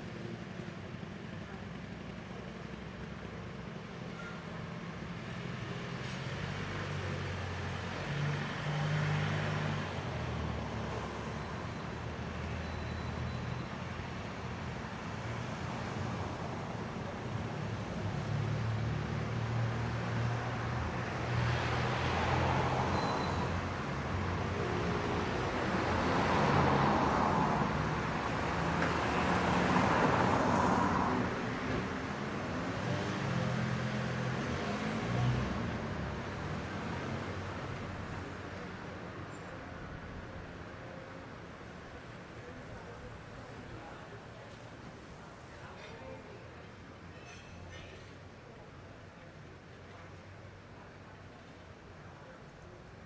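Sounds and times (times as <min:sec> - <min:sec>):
vehicles passing by: 0:00.0 - 0:53.0.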